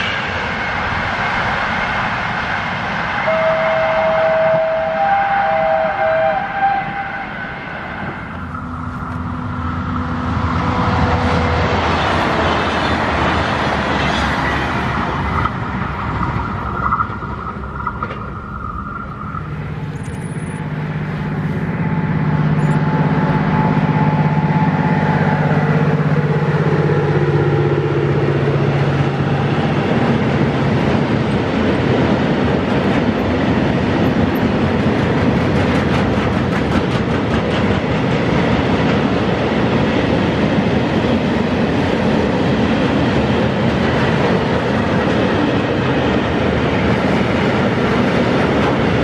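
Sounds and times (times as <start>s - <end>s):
electric locomotive humming: 0.0s - 49.0s
passenger train passing: 0.0s - 49.0s
train wheels rolling on rail: 0.0s - 49.0s.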